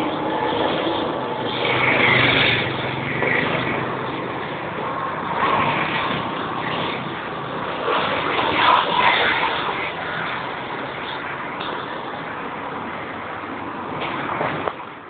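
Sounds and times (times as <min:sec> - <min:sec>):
street traffic noise: 0:00.0 - 0:15.0
vehicle engine running nearby: 0:00.0 - 0:15.0.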